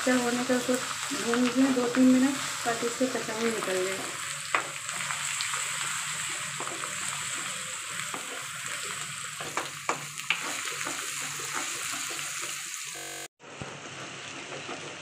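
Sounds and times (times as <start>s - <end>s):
onions sizzling in oil: 0.0s - 13.3s.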